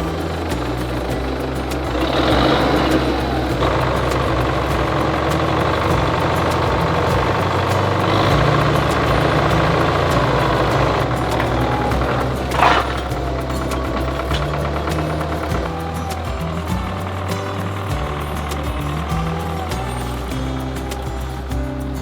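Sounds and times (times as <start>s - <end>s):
steady whine: 0.0s - 22.0s
tractor diesel engine idling: 0.0s - 22.0s.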